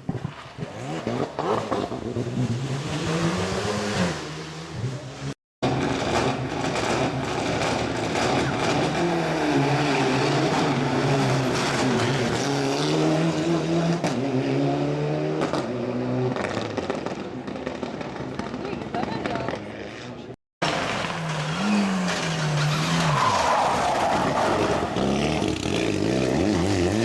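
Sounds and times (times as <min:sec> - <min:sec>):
rally car engine revving hard: 0:00.6 - 0:18.3, 0:20.6 - 0:27.0.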